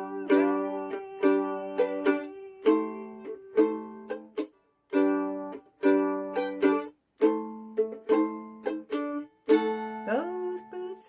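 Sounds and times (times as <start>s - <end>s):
mandolin strumming chords: 0.0s - 11.0s.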